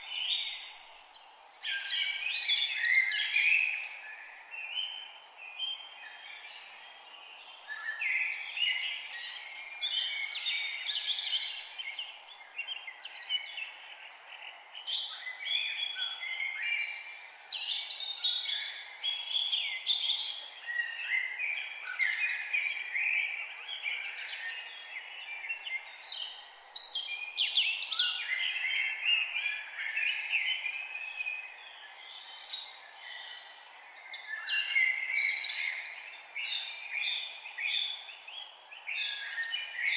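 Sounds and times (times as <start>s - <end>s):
birds singing in chorus: 0.0s - 39.9s.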